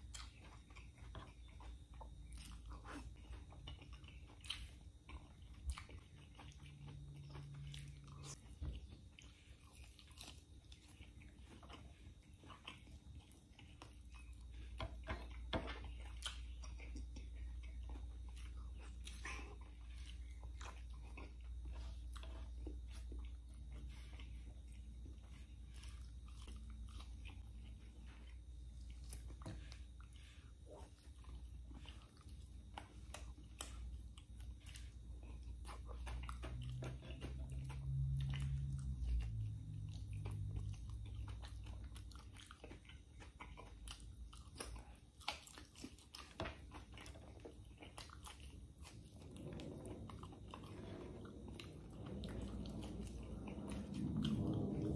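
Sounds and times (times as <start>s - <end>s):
man chewing wetly: 0.0s - 54.9s.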